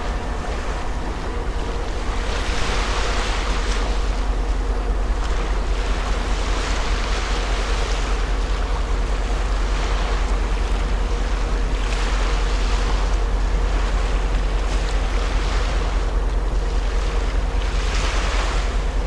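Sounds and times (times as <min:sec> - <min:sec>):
rushing water wash: 0:00.0 - 0:19.0
ship engine low rumble: 0:00.0 - 0:19.0.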